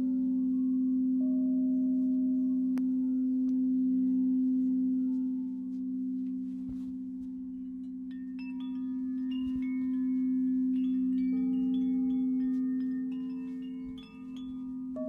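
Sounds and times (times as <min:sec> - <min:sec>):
singing bowl droning low tone: 0:00.0 - 0:15.0
higher chime-like notes: 0:01.3 - 0:15.0.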